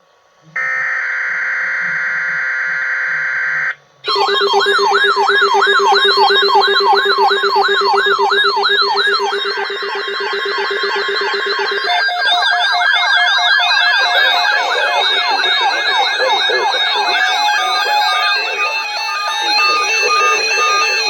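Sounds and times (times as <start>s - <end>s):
warbling siren-like tone: 4.0s - 21.0s
steady electronic alert tone: 4.1s - 21.0s
steady lower tone: 4.1s - 21.0s.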